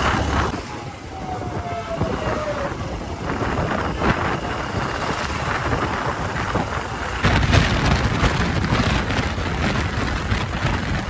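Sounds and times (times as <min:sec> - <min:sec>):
motorcycle engine and tyre noise: 0:00.0 - 0:11.0
wind buffeting microphone: 0:00.0 - 0:11.0.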